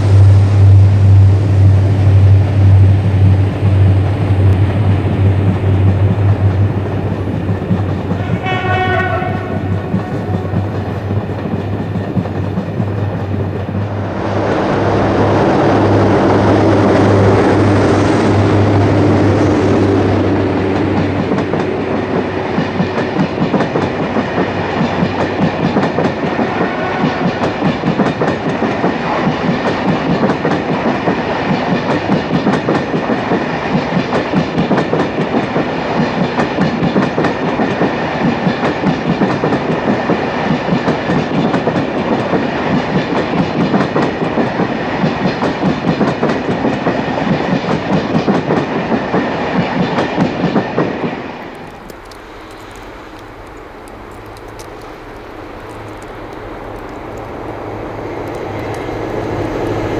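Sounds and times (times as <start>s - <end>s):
diesel locomotive drone: 0.0s - 59.9s
train wheels clattering over rail joints: 3.0s - 14.1s, 19.0s - 59.7s.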